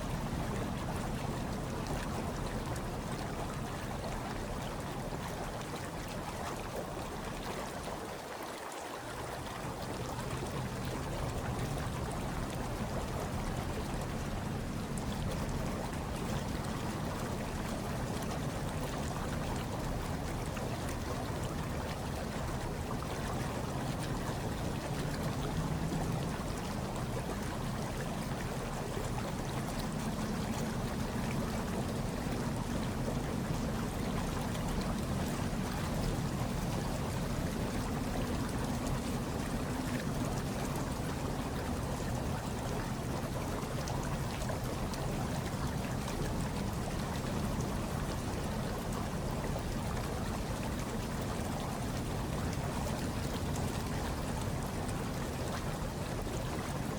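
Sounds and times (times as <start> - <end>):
hot tub water bubbling: 0.0 - 56.9.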